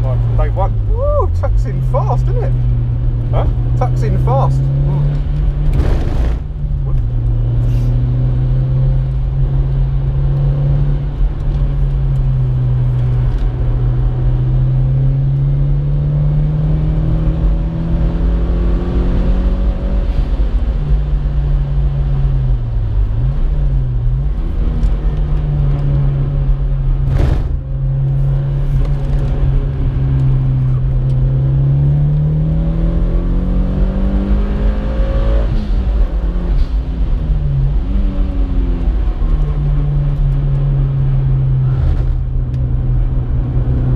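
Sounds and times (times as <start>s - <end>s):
car engine revving: 0.0s - 43.9s
road and wind rumble: 0.0s - 43.9s.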